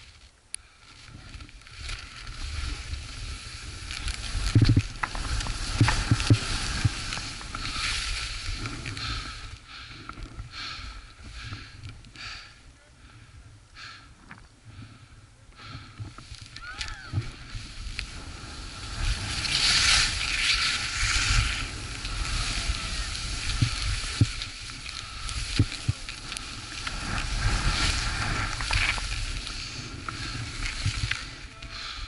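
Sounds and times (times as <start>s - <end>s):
skis scraping over snow: 0.0s - 10.1s, 16.1s - 32.0s
wind rumble on microphone: 1.0s - 12.0s, 14.2s - 32.0s.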